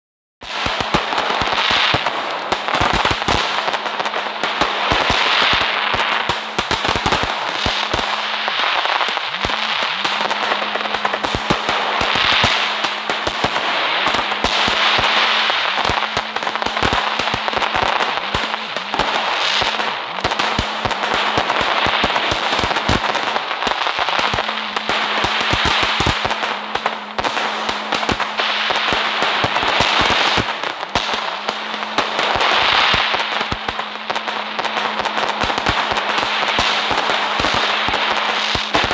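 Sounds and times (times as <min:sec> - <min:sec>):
fireworks crackling and banging: 0:00.4 - 0:38.9.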